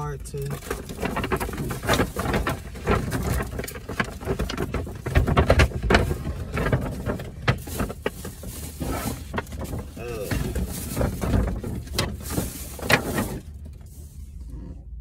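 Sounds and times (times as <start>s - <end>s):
paper gift bag rustling: 0.5s - 14.2s.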